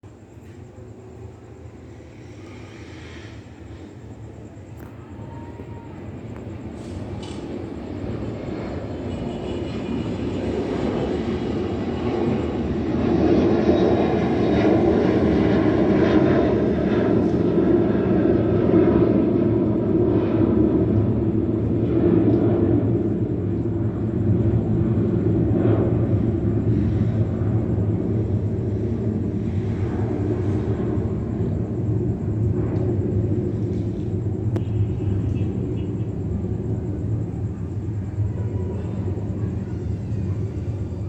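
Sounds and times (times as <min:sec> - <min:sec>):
jet airliner rumble: 0:00.0 - 0:41.0.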